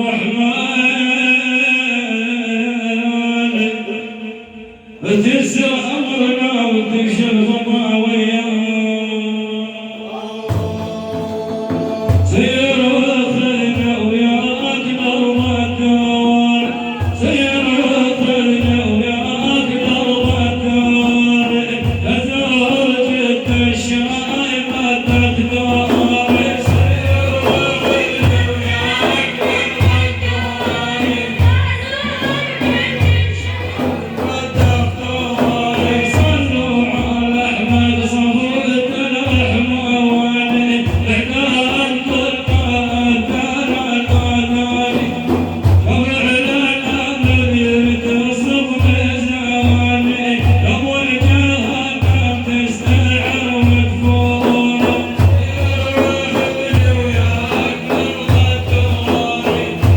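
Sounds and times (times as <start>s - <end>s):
man singing praise song: 0.0s - 59.9s
frame drum beat: 10.1s - 59.9s.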